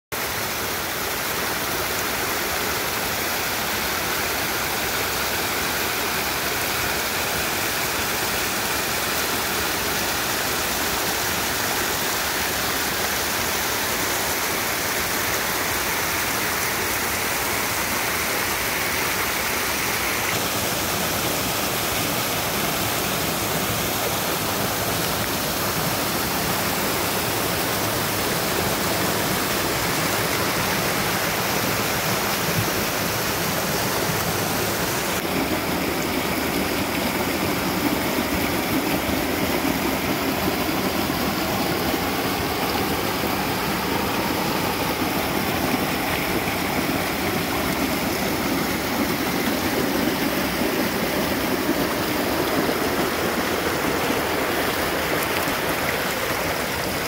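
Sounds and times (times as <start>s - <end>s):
water rushing over rock ledges: 0.1s - 57.0s.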